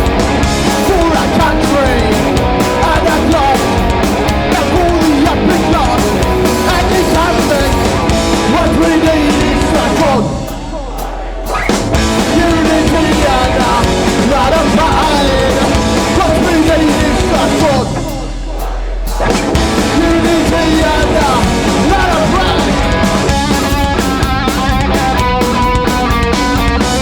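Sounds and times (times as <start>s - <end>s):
distorted guitars: 0.0s - 27.0s
drums: 0.0s - 27.0s
shouted-sung vocals: 0.0s - 27.0s.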